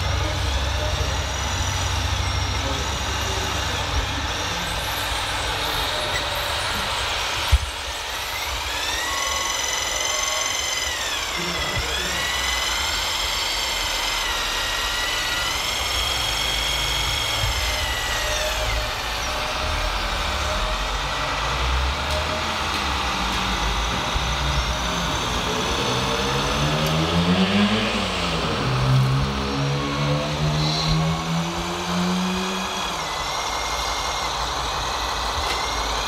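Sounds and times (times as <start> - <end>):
hydraulic pump whining: 0.0 - 36.0.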